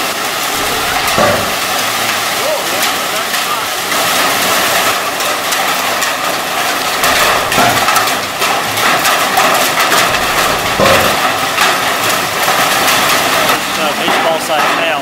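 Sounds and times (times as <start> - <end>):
heavy rain and hail: 0.0 - 15.0.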